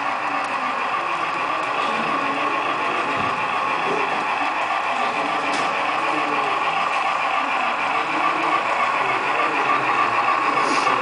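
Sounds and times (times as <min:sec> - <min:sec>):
model locomotive whirring: 0:00.0 - 0:11.0.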